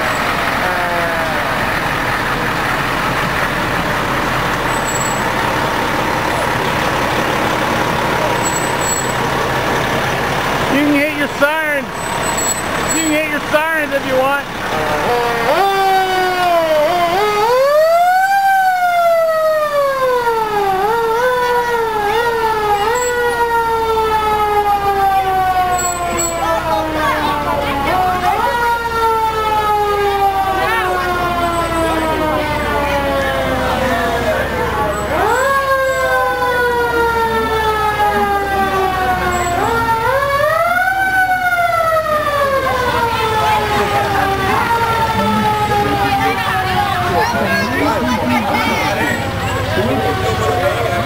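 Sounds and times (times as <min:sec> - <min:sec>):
fire engine siren wailing: 0:00.0 - 0:51.0.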